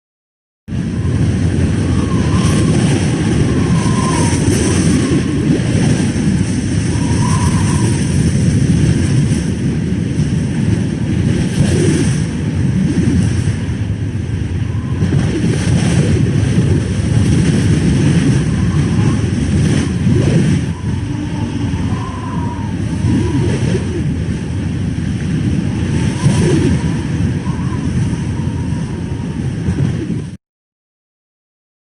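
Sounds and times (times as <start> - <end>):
strong gusty wind: 0.7 - 30.4
wind whistling: 0.7 - 30.4.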